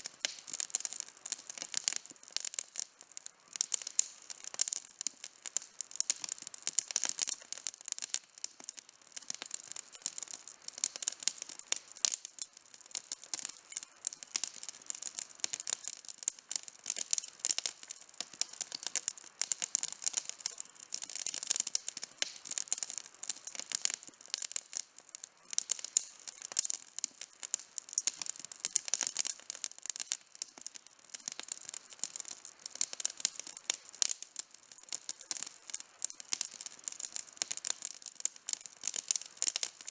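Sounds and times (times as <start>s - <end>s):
campfire crackling and snapping: 0.0s - 39.9s.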